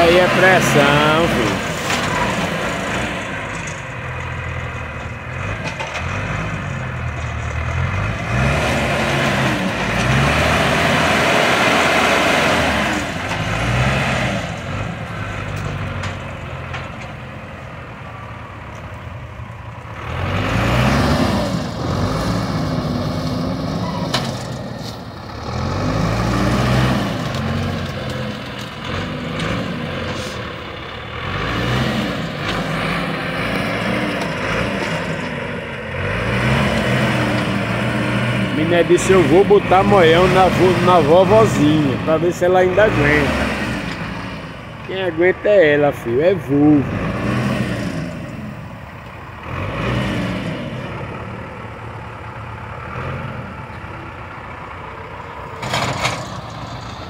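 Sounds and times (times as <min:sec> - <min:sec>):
heavy vehicle engine revving: 0:00.0 - 0:57.0.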